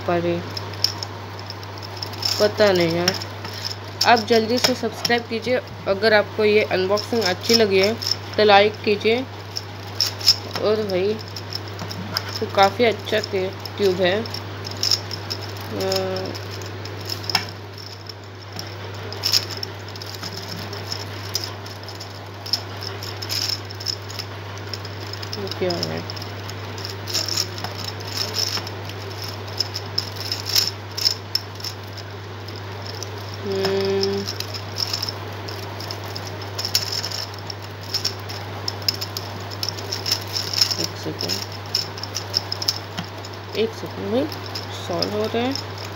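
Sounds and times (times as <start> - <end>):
steady low hum: 0.0 - 45.9
plastic puzzle clicking and rattling: 0.2 - 5.4, 6.0 - 45.9.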